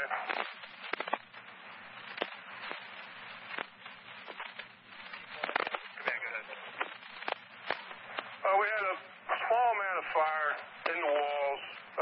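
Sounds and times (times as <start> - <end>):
crackling pops: 0.0 - 12.0
radio static hiss: 0.0 - 12.0.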